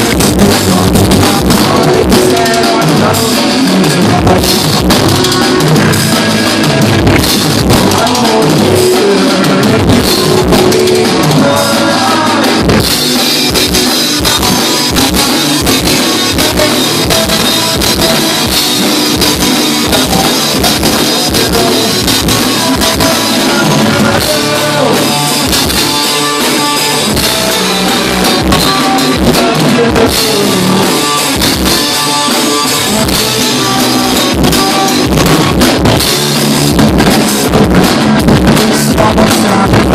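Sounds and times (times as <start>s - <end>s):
drum kit beat: 0.0s - 39.9s
live rock band playing: 0.0s - 39.9s.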